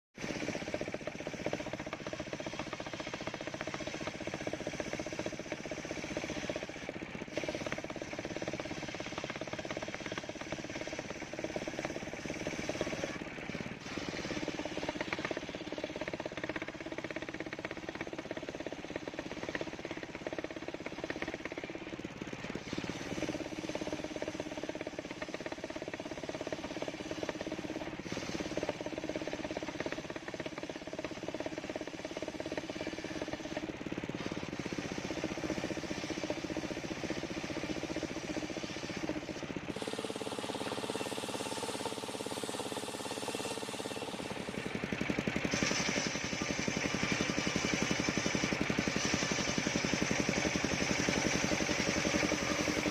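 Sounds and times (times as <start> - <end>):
circular sawmill running: 0.2 - 52.9.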